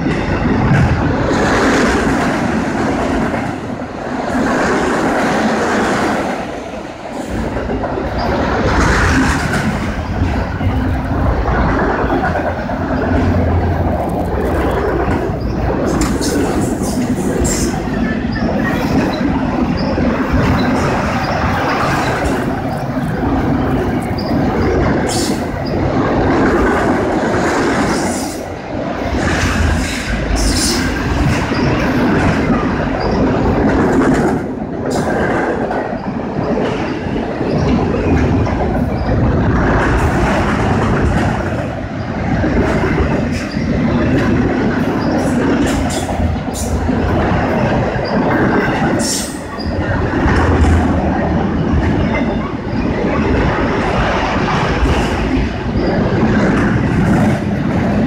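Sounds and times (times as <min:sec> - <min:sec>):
sharp rail clicks: 0:00.0 - 0:58.0
train wheels rumbling on rails: 0:00.0 - 0:58.0.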